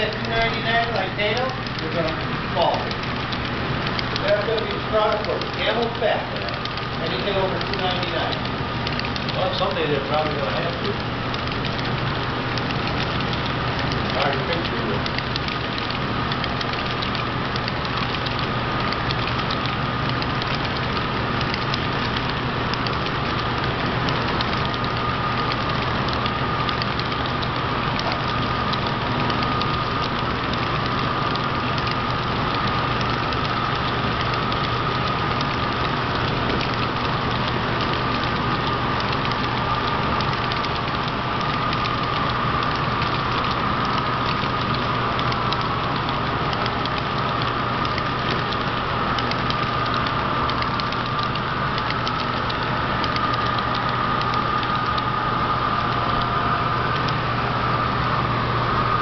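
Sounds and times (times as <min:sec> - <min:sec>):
model train wheels rumbling: 0:00.0 - 0:57.5
wavering mid-pitched whine: 0:00.0 - 0:59.0.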